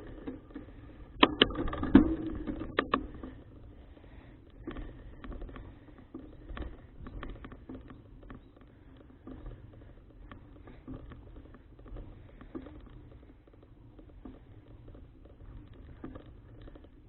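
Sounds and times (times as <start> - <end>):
bicycle clicks and rattles: 0.0 - 17.0.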